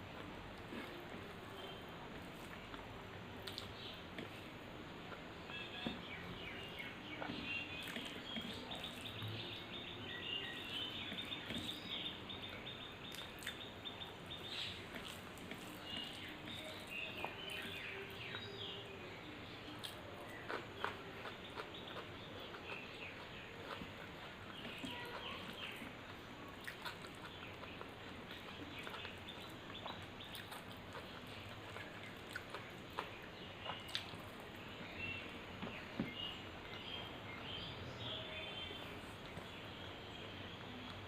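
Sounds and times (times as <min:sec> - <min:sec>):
small birds chirping: 0:00.1 - 0:41.0.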